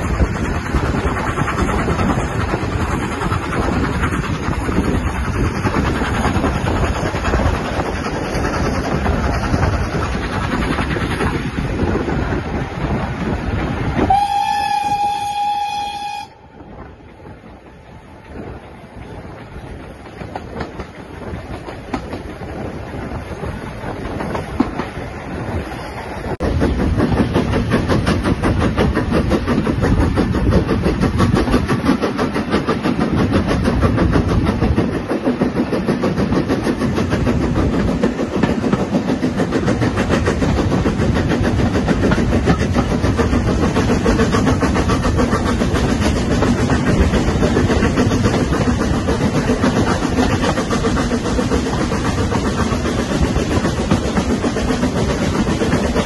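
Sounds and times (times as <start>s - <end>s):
train clattering along track: 0.0s - 56.0s.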